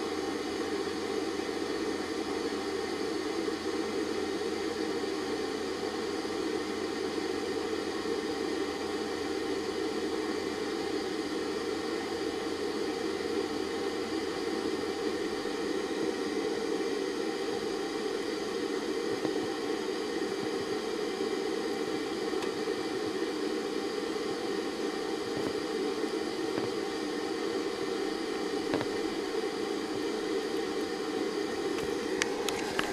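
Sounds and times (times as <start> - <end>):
machine whirring hiss: 0.0 - 32.9.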